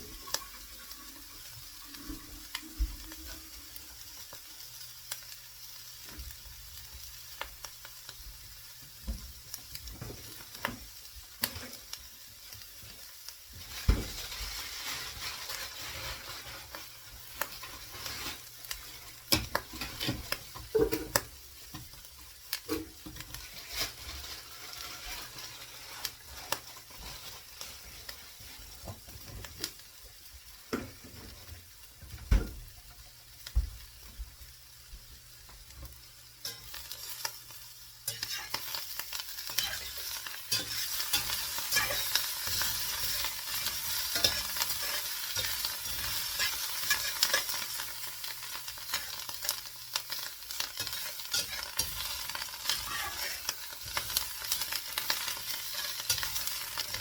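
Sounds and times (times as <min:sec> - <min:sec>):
omelette sizzling in a pan: 0:00.0 - 0:57.0.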